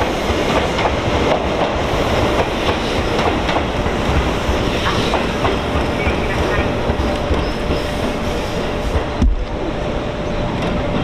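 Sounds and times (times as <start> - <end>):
train rumbling with wheel clatter: 0.0 - 11.0.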